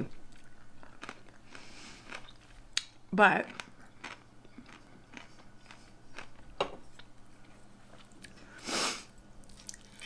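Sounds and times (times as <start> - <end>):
soft chewing and wet mouth sounds: 0.0 - 10.0.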